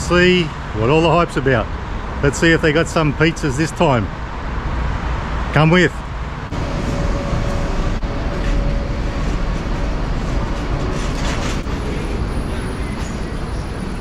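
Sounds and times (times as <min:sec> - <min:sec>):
loud vehicle rumble: 0:00.0 - 0:14.0.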